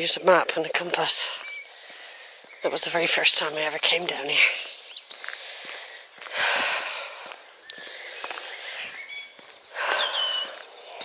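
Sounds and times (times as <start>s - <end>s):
outdoor background noise: 0.0s - 11.0s
small birds chirping: 0.0s - 11.0s.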